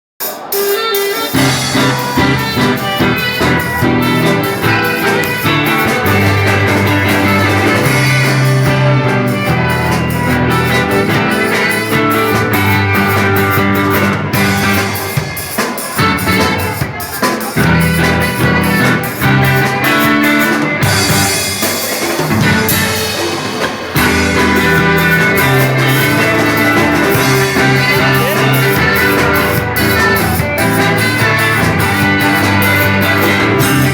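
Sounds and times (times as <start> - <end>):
drum kit beat: 0.2 - 33.9
live band playing: 0.2 - 33.9
saxophone: 0.3 - 21.6, 22.3 - 33.9
bass line: 1.3 - 15.3, 15.9 - 17.0, 17.6 - 21.5, 22.3 - 23.2, 24.0 - 33.9.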